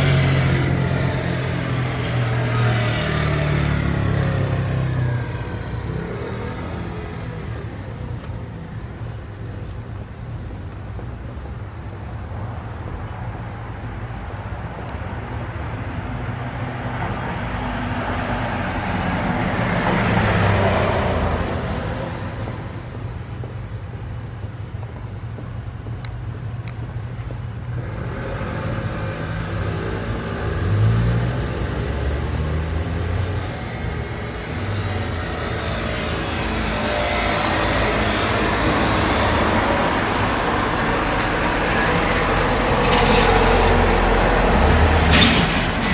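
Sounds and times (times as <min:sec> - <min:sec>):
road traffic noise: 0:00.0 - 0:45.9.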